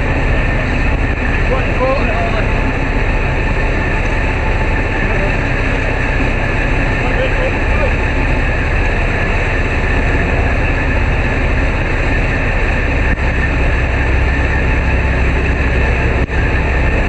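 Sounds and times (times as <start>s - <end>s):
churning wake water: 0.0s - 17.0s
diesel engines rumbling: 0.0s - 17.0s.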